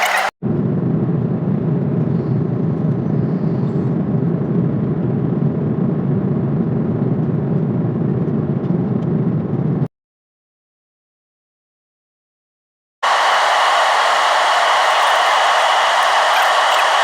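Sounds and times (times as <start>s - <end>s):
airliner cabin engine rumble: 0.0s - 9.9s, 13.0s - 17.0s.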